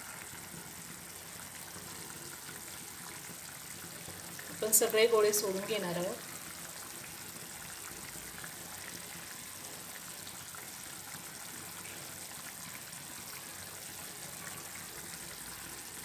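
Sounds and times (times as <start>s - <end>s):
gravy bubbling in a pan: 0.0s - 16.0s.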